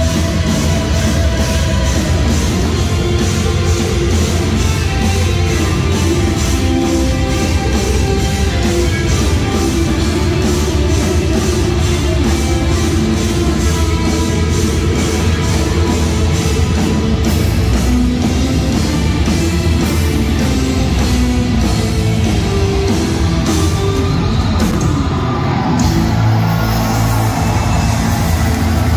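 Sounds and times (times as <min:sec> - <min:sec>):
bass guitar: 0:00.0 - 0:28.9
drum kit beat: 0:00.0 - 0:28.9
electric guitar: 0:00.0 - 0:28.9.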